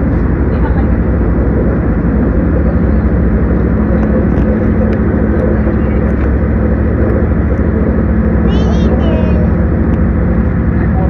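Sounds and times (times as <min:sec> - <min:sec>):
low hum: 0:00.0 - 0:11.0
road and engine rumble: 0:00.0 - 0:11.0.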